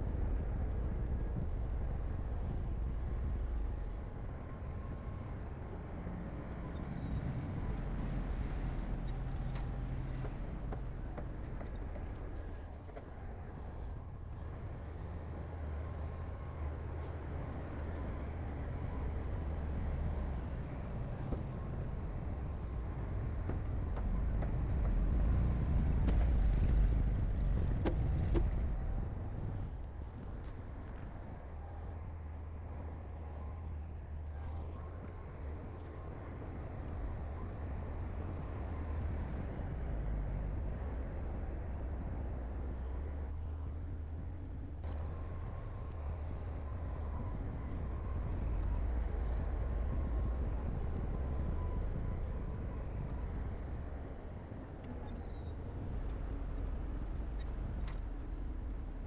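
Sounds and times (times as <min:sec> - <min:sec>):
heavy machinery diesel engines rumbling: 0:00.0 - 0:59.0.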